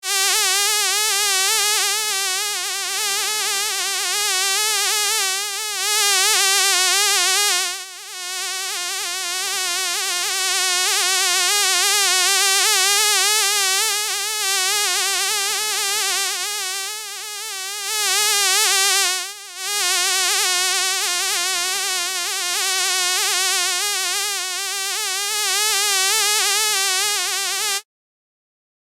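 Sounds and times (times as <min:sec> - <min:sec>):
mosquito whine: 0:00.0 - 0:27.8.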